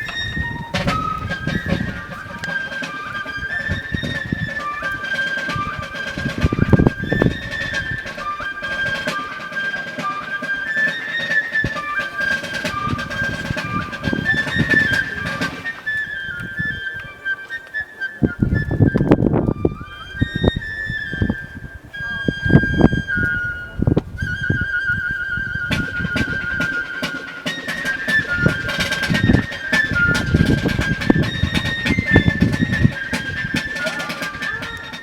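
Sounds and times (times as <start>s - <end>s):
flute-like wind instrument melody: 0.0s - 35.0s.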